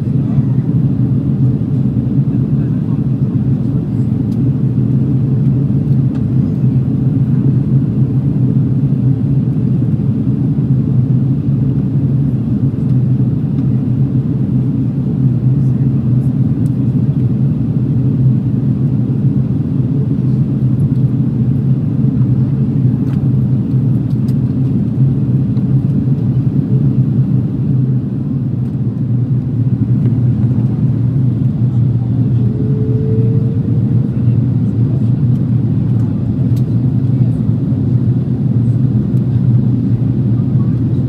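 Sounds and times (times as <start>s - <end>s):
airplane cabin rumble: 0.0s - 41.0s.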